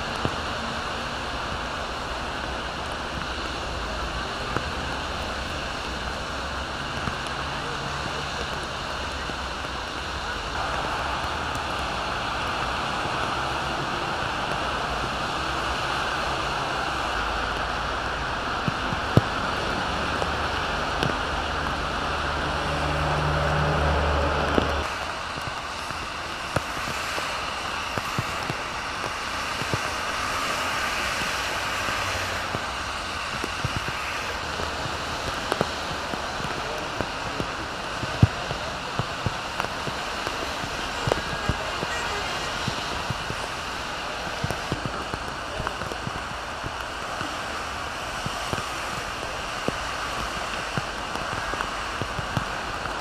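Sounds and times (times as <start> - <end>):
rain hissing: 0.0 - 53.0
raindrops ticking: 0.0 - 53.0
tyres on wet road: 0.0 - 53.0.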